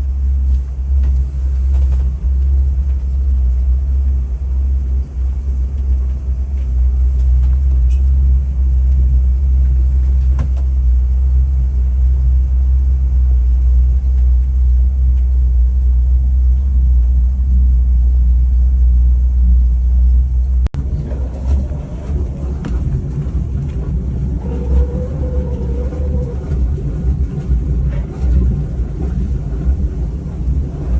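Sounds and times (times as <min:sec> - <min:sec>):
boat engine deep rumble: 0:00.0 - 0:30.9.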